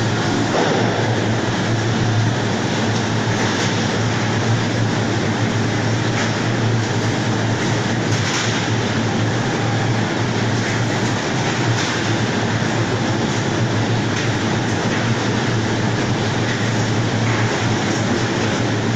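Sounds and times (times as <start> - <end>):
conveyor machinery running: 0.0 - 18.9
low machine hum: 0.0 - 18.9.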